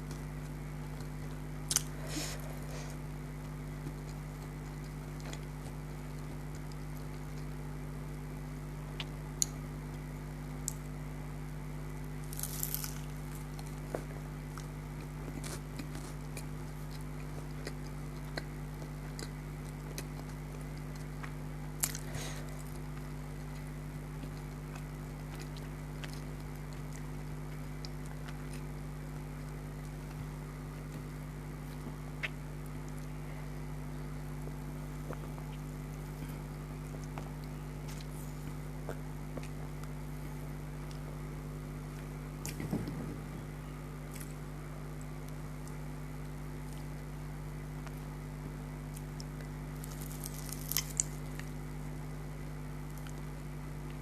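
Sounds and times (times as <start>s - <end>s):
person chewing food: 0.0s - 8.2s, 11.9s - 41.2s, 44.1s - 48.2s, 48.9s - 51.7s
steady low hum: 0.0s - 54.0s.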